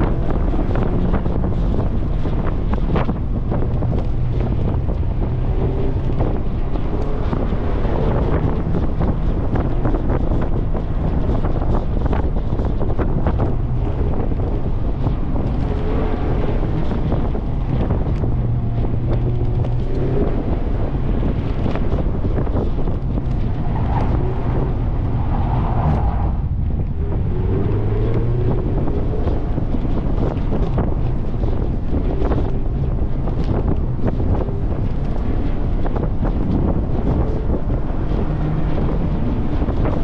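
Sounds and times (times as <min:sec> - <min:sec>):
car engine running hard: 0:00.0 - 0:40.0
wind buffeting microphone: 0:00.0 - 0:40.0.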